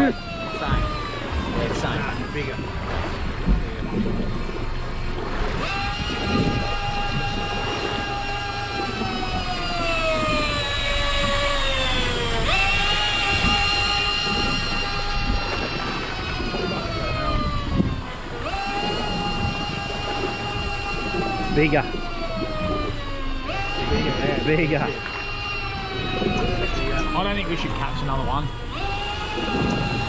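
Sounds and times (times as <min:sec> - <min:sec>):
electric fishing reel motor whining: 0:00.0 - 0:30.0
low rumble: 0:00.0 - 0:30.0
wind noise: 0:00.0 - 0:30.0.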